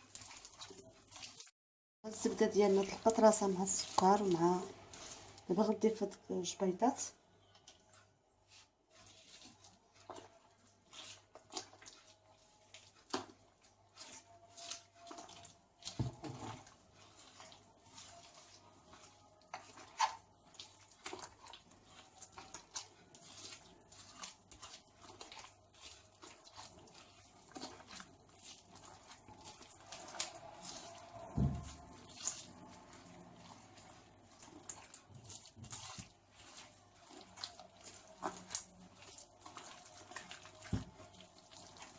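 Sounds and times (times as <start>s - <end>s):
wet squelching of mixture: 0.0s - 41.9s.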